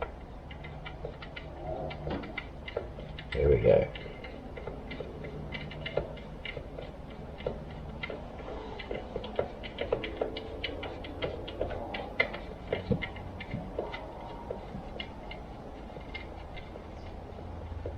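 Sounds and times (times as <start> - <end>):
hand tools clicking and ticking: 0.0 - 17.9.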